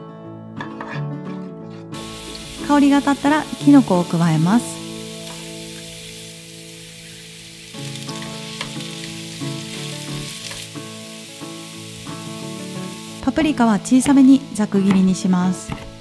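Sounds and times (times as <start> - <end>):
soft background music: 0.0 - 16.0
mushrooms sizzling in frying pan: 2.0 - 16.0.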